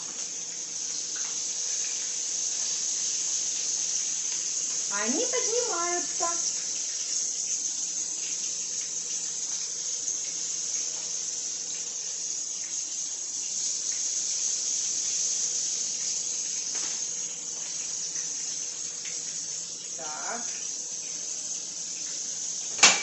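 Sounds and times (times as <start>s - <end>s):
patties sizzling in oil: 0.0s - 23.0s.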